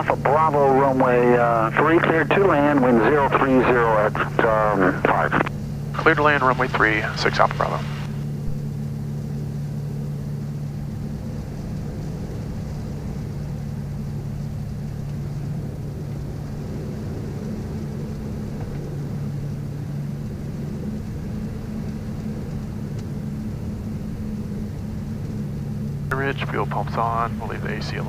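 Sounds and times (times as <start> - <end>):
aircraft propeller engines droning: 0.0 - 28.0.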